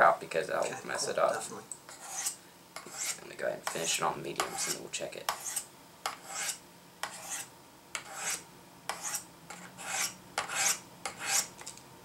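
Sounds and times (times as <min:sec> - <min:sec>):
knife blade scraping ceramic rods: 0:00.6 - 0:11.7.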